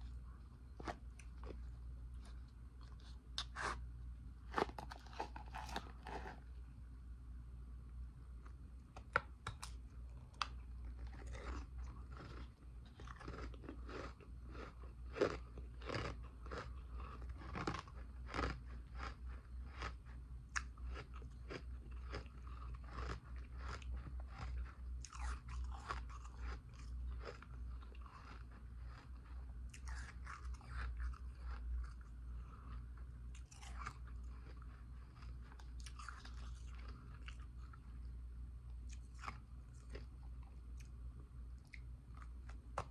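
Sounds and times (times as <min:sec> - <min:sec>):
ice crunching being chewed: 0:00.0 - 0:03.8, 0:04.4 - 0:06.6, 0:08.4 - 0:38.2, 0:38.8 - 0:41.0.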